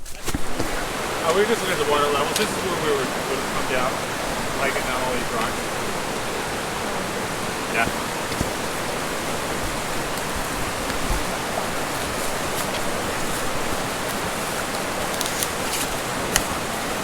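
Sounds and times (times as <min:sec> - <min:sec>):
river rushing over rocks: 0:00.3 - 0:17.0.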